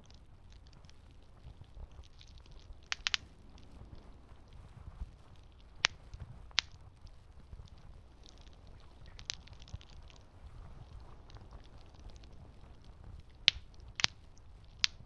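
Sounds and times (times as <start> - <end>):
campfire wood popping: 0.0 - 15.0
low steady rumble: 0.0 - 15.0.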